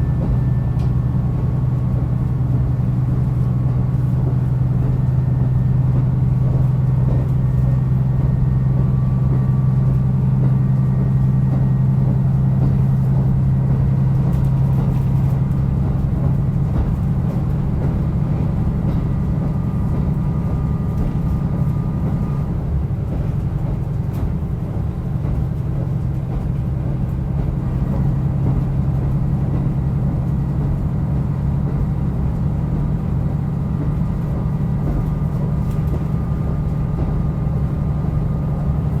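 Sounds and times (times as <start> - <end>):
railcar engine drone: 0.0 - 39.0
train wheels rumbling on track: 0.0 - 39.0.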